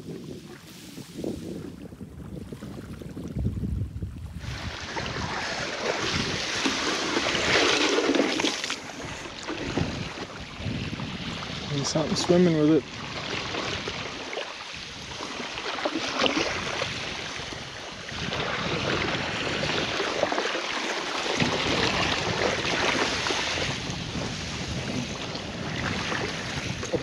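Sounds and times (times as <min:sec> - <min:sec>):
wind buffeting microphone: 0:00.0 - 0:20.4, 0:21.3 - 0:27.0
sea water washing: 0:04.3 - 0:27.0.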